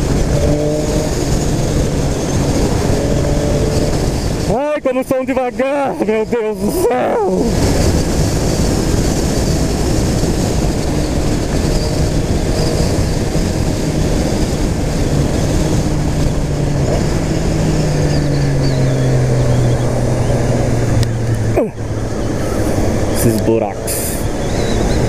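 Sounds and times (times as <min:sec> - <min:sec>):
motorcycle engine running: 0:00.0 - 0:25.0
wind rush: 0:00.0 - 0:25.0.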